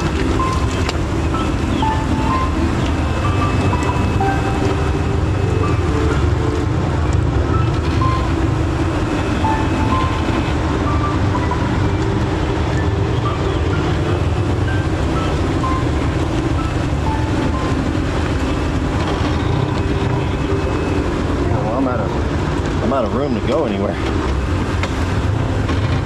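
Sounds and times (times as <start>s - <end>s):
engine and tyres rumbling: 0.0s - 26.0s.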